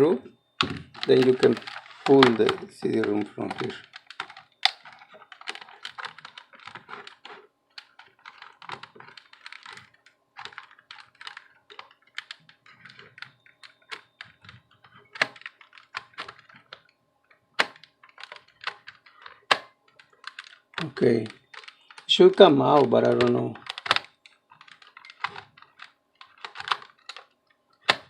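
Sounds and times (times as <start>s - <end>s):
hands clicking on plastic case: 0.6s - 16.9s, 17.6s - 28.0s.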